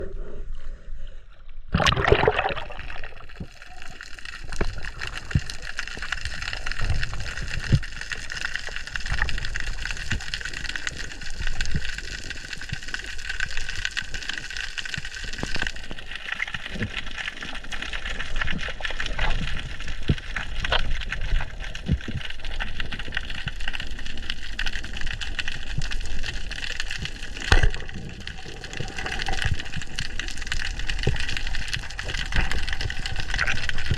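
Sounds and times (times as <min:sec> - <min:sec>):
underwater hiss and crackle: 0:00.0 - 0:33.9
underwater water rush: 0:01.6 - 0:33.9.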